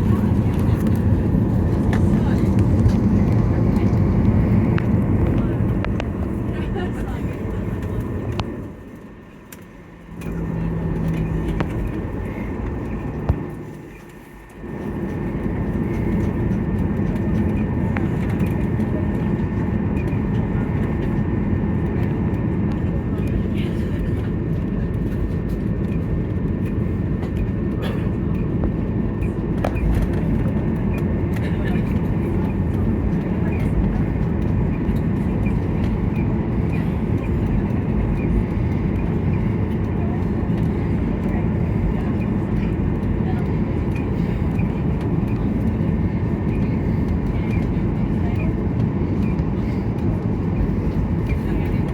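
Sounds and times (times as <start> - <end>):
faint rattles and clicks: 0.0 - 51.9
jet engines from inside cabin: 0.0 - 51.9.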